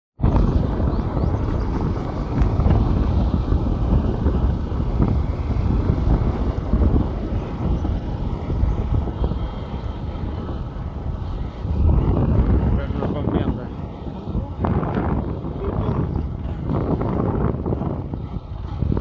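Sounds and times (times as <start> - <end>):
motorcycle engine and road noise: 0.2 - 19.0
wind on microphone: 0.2 - 19.0.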